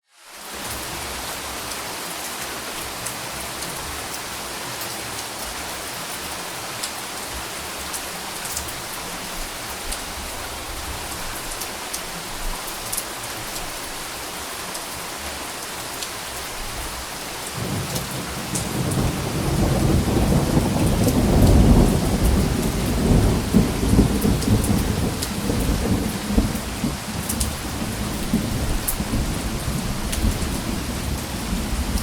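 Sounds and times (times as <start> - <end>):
rain hiss: 0.1 - 32.0.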